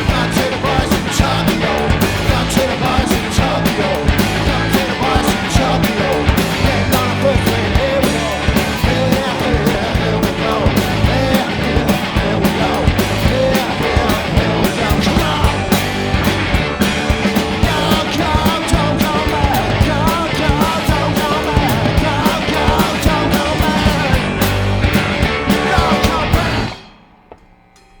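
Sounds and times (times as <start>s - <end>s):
rock band playing live: 0.0s - 27.0s.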